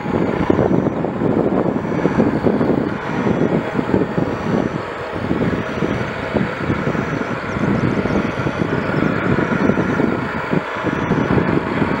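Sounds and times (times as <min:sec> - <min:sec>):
helicopter turbines and rotor running: 0:00.0 - 0:12.0.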